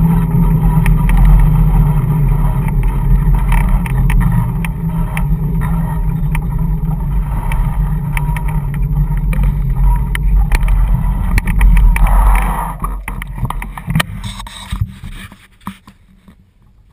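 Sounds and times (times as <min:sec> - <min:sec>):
wind on camera: 0:00.0 - 0:15.4
scooter wheels rumbling on tarmac: 0:00.0 - 0:16.9.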